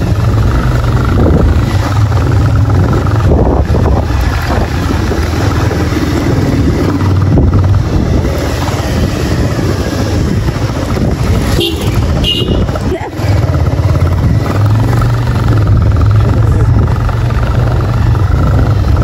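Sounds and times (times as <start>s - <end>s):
wind rushing over microphone: 0.0s - 13.0s, 13.6s - 19.0s
motorcycle engine running: 0.0s - 19.0s.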